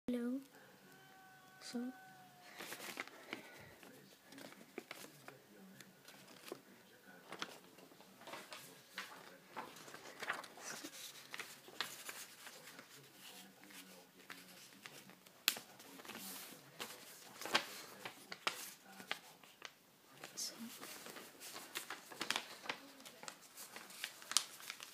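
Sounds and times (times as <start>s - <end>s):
paper folding and rustling: 2.4s - 24.9s.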